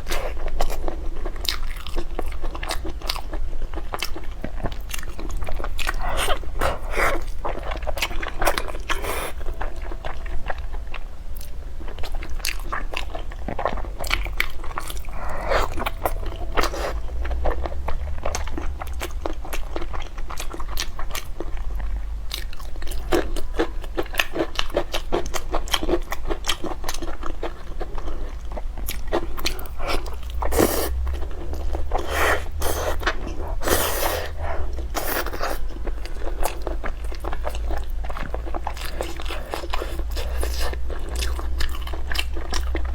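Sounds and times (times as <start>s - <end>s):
low steady hum: 0.0s - 42.9s
person crunching and chewing: 0.0s - 42.9s.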